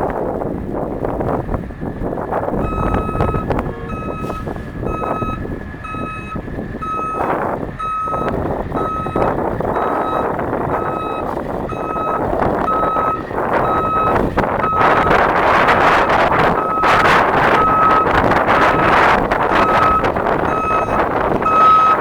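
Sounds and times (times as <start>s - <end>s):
diesel engine running: 0.0s - 22.0s
wind on microphone: 0.0s - 22.0s
reversing alarm beeping: 2.6s - 22.0s.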